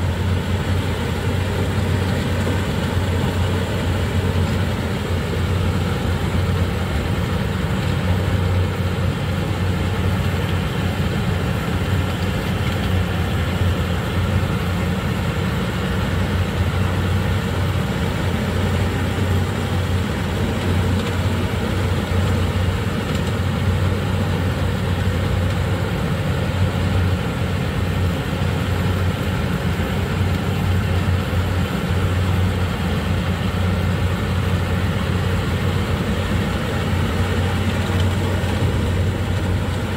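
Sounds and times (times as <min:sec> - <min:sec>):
harvester engine droning: 0:00.0 - 0:39.9
machinery noise: 0:00.0 - 0:39.9.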